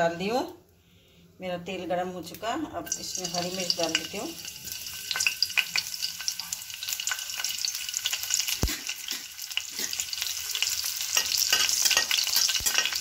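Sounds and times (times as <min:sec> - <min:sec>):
chillies sizzling in hot oil: 0:02.2 - 0:13.0.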